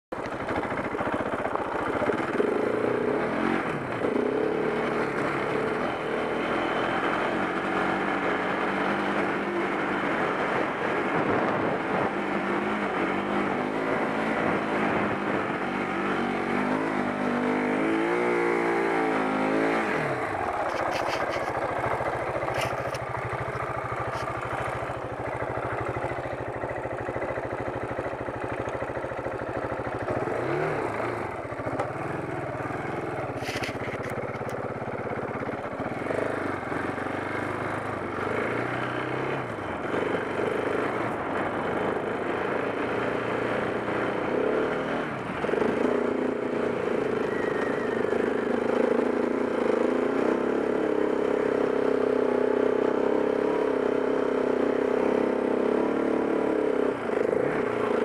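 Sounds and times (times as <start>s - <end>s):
motorcycle engine revving: 0.2s - 58.0s.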